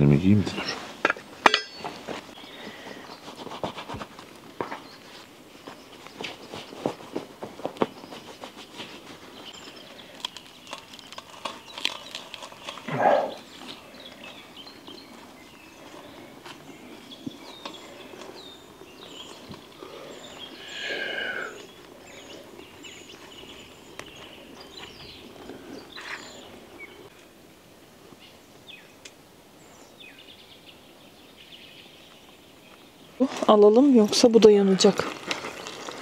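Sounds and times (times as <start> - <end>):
wild birds singing and calling: 0.0 - 36.0.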